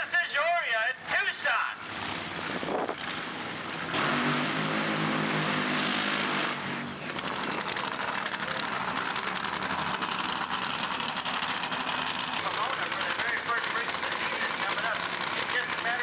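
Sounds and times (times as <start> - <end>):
race car engine roaring: 1.0 - 16.0.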